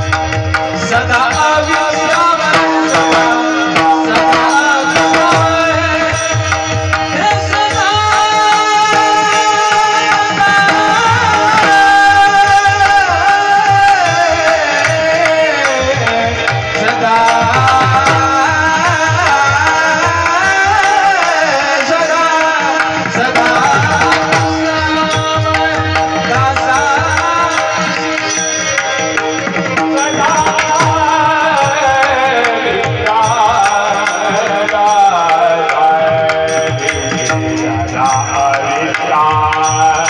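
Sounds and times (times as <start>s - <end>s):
person singing devotional melody: 0.0s - 40.0s.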